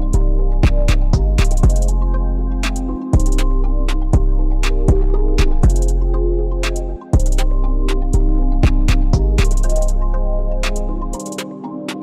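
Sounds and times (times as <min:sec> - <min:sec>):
deep sustained bass: 0:00.0 - 0:11.2
instrumental beat: 0:00.0 - 0:12.0.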